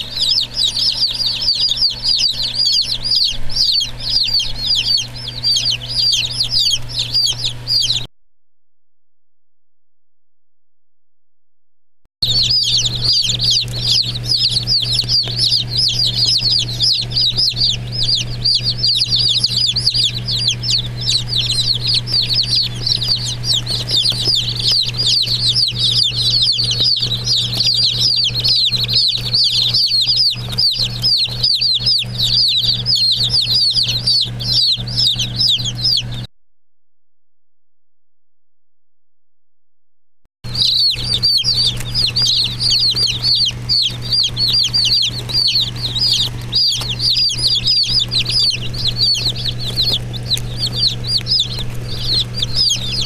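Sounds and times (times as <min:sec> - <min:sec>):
baby chicks peeping: 0:00.0 - 0:08.1, 0:12.2 - 0:36.3, 0:40.4 - 0:53.0
steady low hum: 0:00.0 - 0:08.1, 0:12.2 - 0:36.3, 0:40.5 - 0:53.0.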